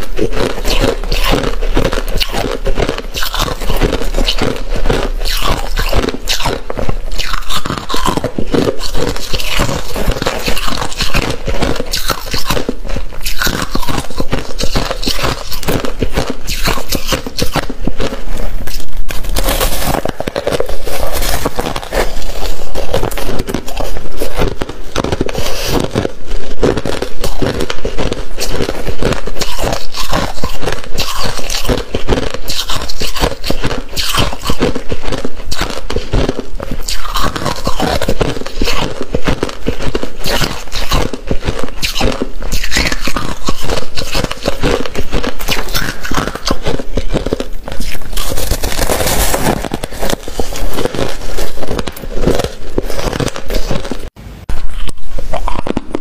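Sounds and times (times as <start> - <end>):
freezer frost crunching and scraping: 0.0 - 56.0.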